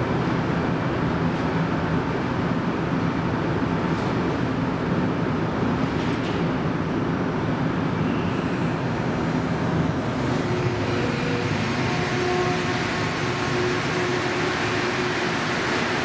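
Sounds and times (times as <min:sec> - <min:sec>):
train equipment hum and rumble: 0:00.0 - 0:16.0.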